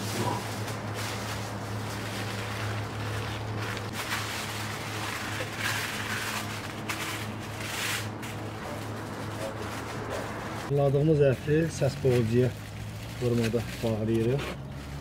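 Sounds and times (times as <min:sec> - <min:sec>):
steady low hum: 0:00.0 - 0:13.2
aluminium foil crinkling: 0:00.0 - 0:15.0.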